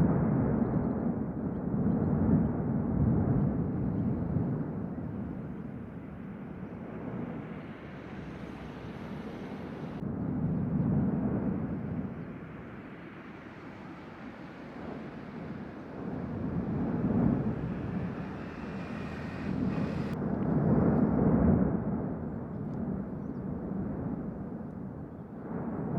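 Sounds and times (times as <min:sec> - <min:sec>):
low rumble of volcano erupting: 0:00.0 - 0:25.9.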